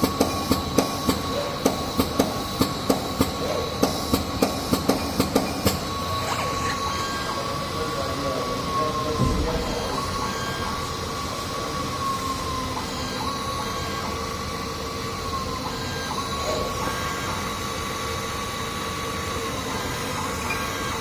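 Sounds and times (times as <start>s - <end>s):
high steady machine tone: 0.0s - 21.0s
machine mechanical hum: 0.0s - 21.0s.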